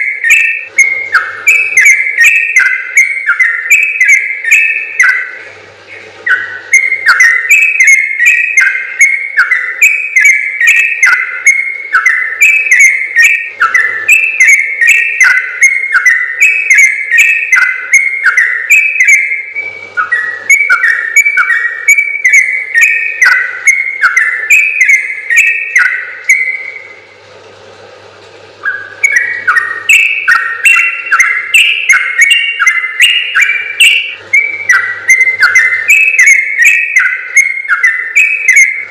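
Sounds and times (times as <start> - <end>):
bird singing bubbling whistled notes: 0.0 - 27.2, 28.6 - 38.9.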